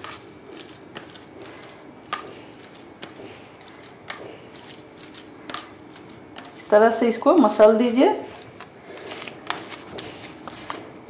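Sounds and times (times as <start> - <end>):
soft squishing of curds: 0.0 - 11.0.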